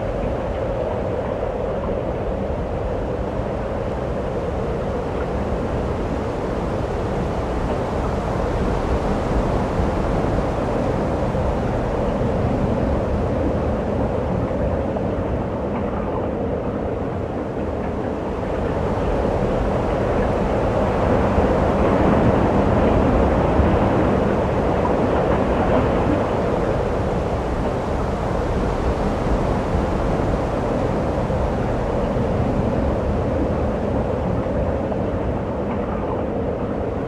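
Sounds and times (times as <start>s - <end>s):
blizzard wind on microphone: 0.0s - 37.0s.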